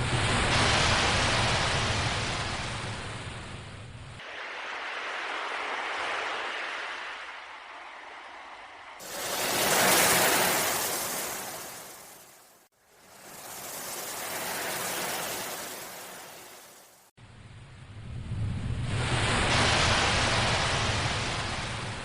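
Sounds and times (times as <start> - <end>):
sea waves washing in: 0.0 - 17.2, 18.2 - 22.0.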